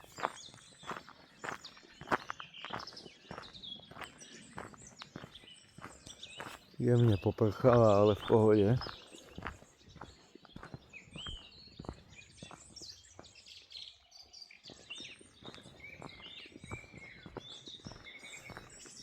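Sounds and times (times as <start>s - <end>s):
songbirds singing and chirping: 0.0s - 19.0s.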